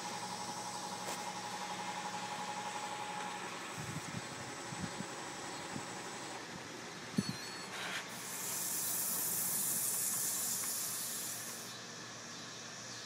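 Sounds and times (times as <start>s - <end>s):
hiss of rushing air: 0.0s - 12.9s.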